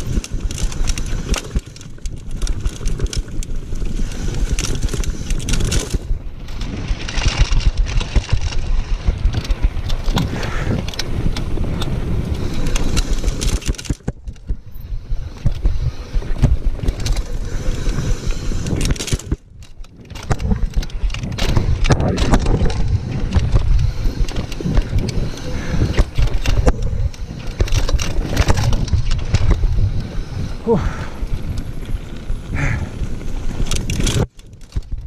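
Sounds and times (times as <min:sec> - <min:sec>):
bike clattering over bumps: 0:00.0 - 0:35.0
tyres rumbling on dirt: 0:00.0 - 0:35.0
wind on microphone: 0:00.0 - 0:35.0.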